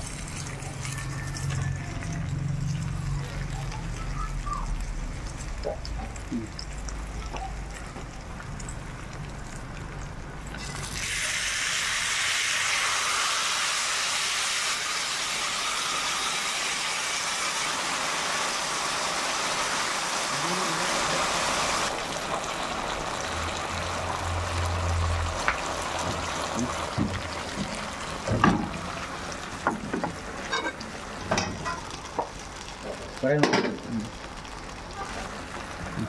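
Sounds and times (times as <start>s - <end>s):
gravy sizzling on hot plate: 0.0s - 36.0s.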